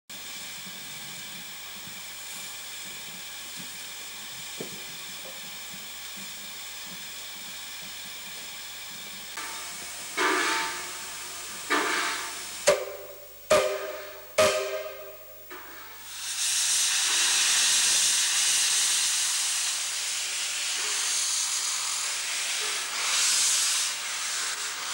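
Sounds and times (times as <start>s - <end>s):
loud steam blasts: 0.1s - 24.9s
steam locomotive hissing: 0.1s - 24.9s.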